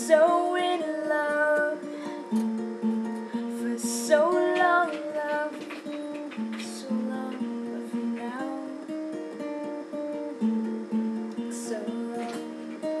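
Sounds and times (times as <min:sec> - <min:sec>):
guitar picking and strumming: 0:00.0 - 0:13.0.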